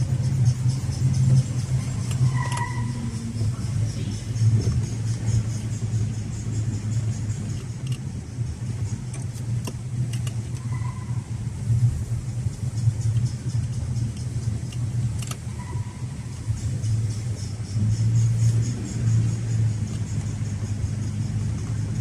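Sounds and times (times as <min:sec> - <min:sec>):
car driving hum: 0:00.0 - 0:22.0
sharp clicks and ticks: 0:00.0 - 0:22.0.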